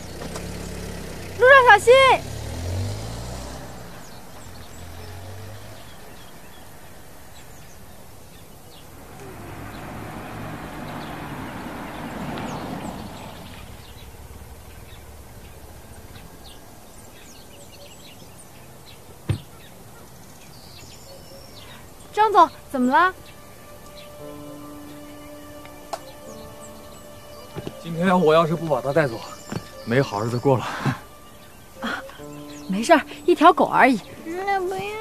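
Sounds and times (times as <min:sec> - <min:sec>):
car engine driving off: 0:00.0 - 0:35.0
small birds chirping: 0:00.0 - 0:35.0.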